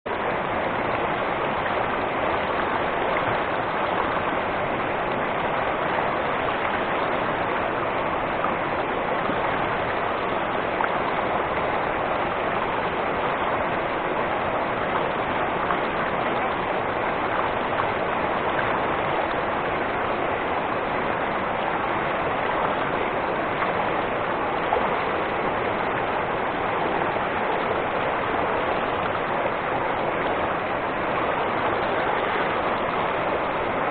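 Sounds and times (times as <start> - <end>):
rushing stream water: 0.0 - 33.9.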